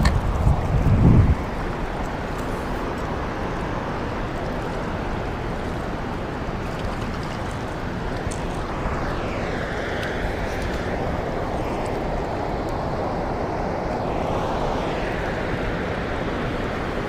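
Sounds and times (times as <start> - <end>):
rushing river water: 0.0 - 17.0
wind buffeting microphone: 0.0 - 17.0.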